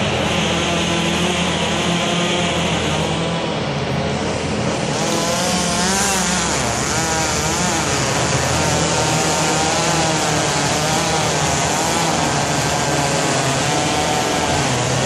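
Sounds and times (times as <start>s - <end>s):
chainsaw running: 0.0s - 15.0s
larger engine running: 0.0s - 15.0s.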